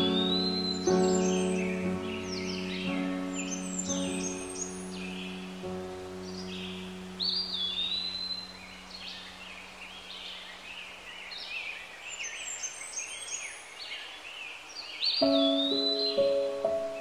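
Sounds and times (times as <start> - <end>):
birds chirping and whistling: 0.0 - 14.0, 15.0 - 17.0.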